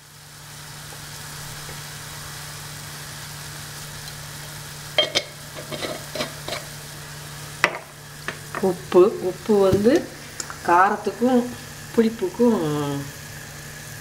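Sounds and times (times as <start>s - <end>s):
broth simmering: 0.0s - 14.0s.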